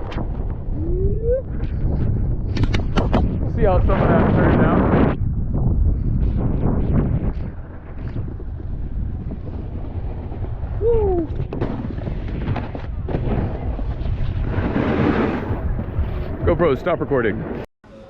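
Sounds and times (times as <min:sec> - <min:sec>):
wind buffeting microphone: 0:00.0 - 0:17.6.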